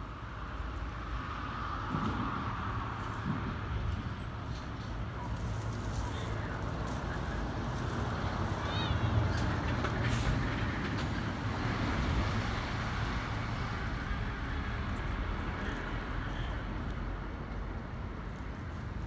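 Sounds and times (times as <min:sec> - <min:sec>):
outdoor rumble and hiss: 0:00.0 - 0:19.0.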